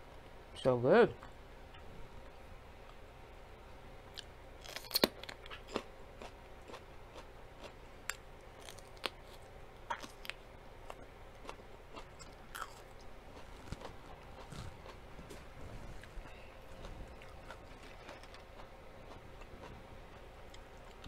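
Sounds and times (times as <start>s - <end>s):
crunching and chewing pepper: 4.1s - 21.0s.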